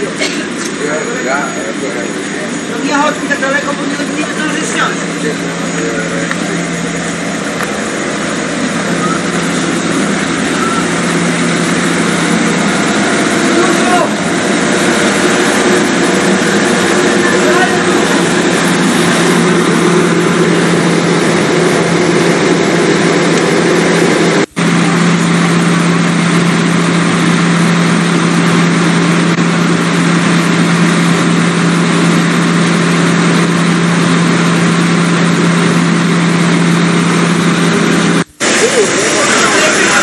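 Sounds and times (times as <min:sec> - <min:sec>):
diesel train engine idling: 0:00.0 - 0:40.0.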